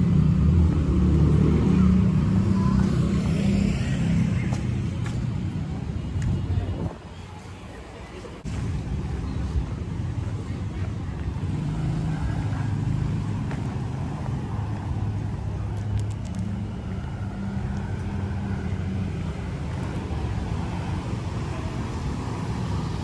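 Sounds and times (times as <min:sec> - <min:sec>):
street traffic hum: 0:00.0 - 0:23.0.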